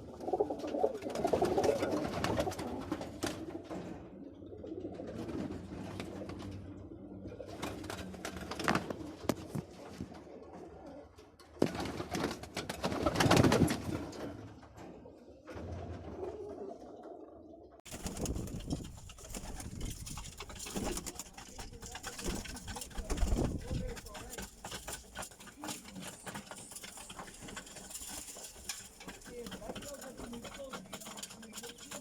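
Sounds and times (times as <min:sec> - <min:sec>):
pigeons cooing: 0:00.0 - 0:09.5, 0:14.8 - 0:32.0.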